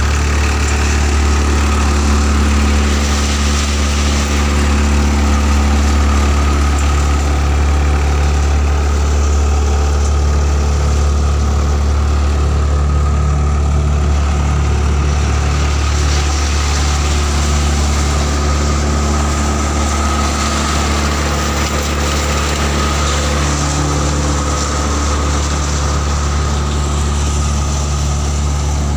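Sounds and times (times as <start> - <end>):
threshing drum whirring and rattling: 0.0 - 28.9
tractor engine hum: 0.0 - 28.9.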